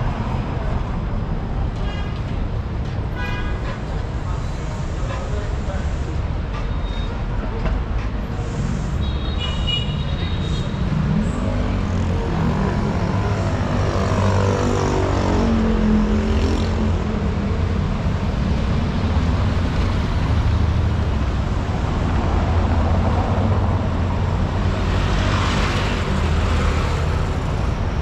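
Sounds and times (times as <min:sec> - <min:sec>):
traffic engine rumble: 0:00.0 - 0:28.0.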